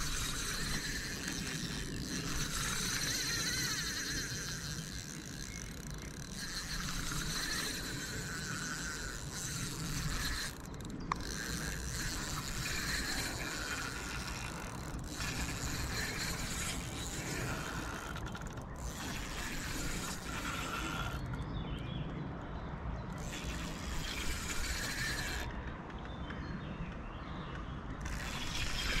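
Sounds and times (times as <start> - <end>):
fishing reel gears whirring: 0.0 - 21.5, 23.1 - 25.5, 28.0 - 29.0
reel click: 0.0 - 21.5, 23.1 - 25.5, 28.0 - 29.0.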